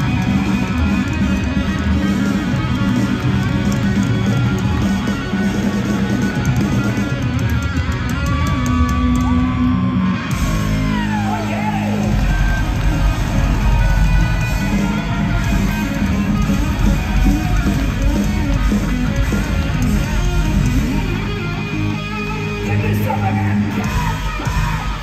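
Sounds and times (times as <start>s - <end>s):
bass guitar: 0.0s - 25.0s
electric guitar: 0.0s - 25.0s
live rock band playing: 0.0s - 25.0s.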